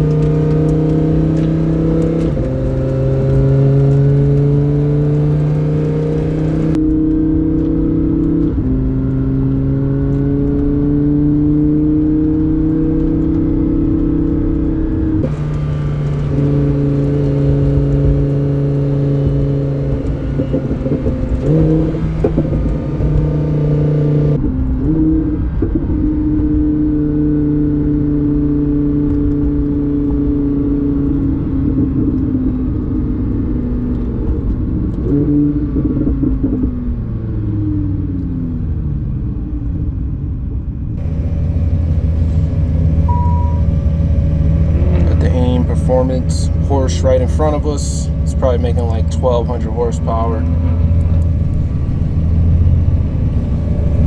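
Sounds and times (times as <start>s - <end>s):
car engine drone from inside cabin: 0.0s - 54.0s.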